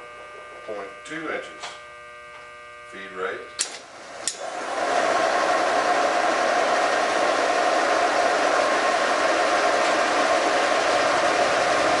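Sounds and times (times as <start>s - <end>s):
boring mill machining hum: 0.0s - 12.0s.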